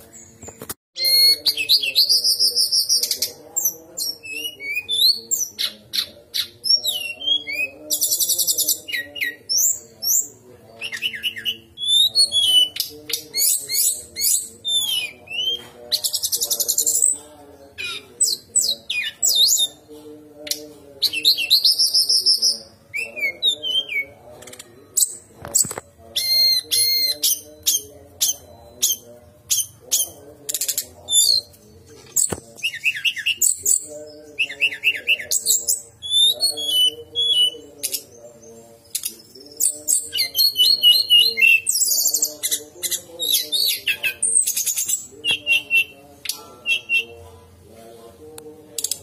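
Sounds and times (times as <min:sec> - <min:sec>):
bird singing trills and whistles: 0:00.1 - 0:17.2, 0:20.5 - 0:31.6, 0:32.2 - 0:47.1.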